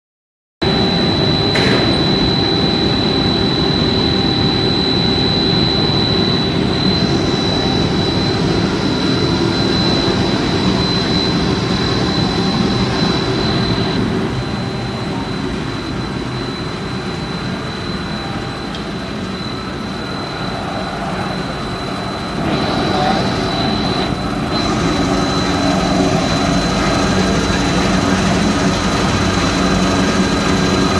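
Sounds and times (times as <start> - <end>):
loud machine noise: 0.6 - 30.9
thin high whine: 0.6 - 30.9.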